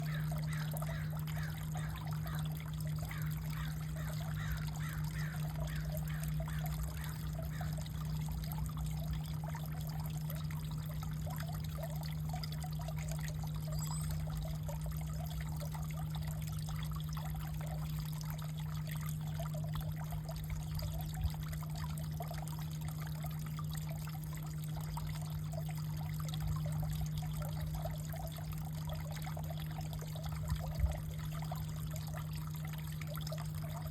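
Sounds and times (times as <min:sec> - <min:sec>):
steady low hum: 0:00.0 - 0:33.9
water trickling: 0:00.0 - 0:33.9.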